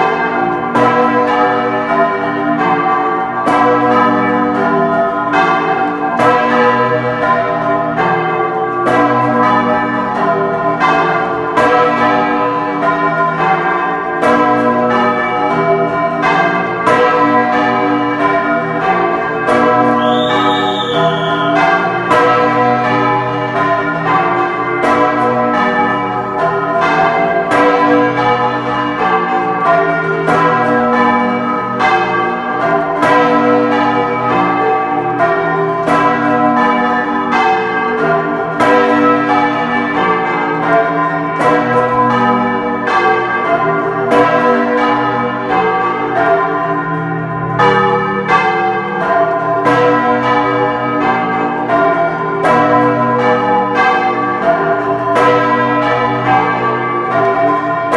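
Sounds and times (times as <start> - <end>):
large church bells pealing: 0.0 - 57.9.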